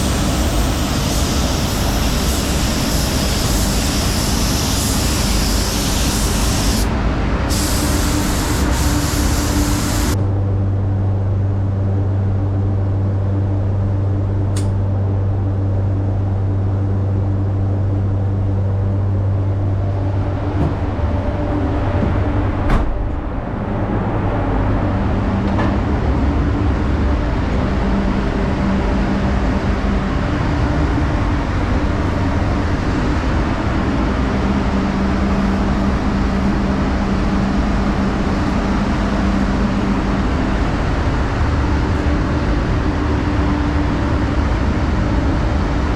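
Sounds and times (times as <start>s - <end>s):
air system humming: 0.0s - 45.9s.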